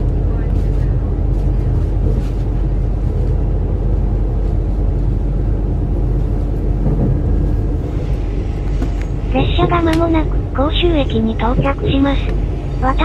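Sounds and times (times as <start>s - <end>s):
train cabin rumble: 0.0s - 13.0s.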